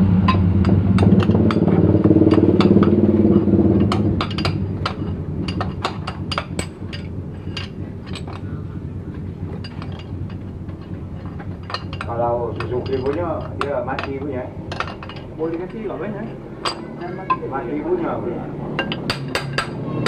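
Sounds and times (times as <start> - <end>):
engine humming: 0.0 - 20.0
metal tools clinking: 0.3 - 17.6, 18.7 - 19.8.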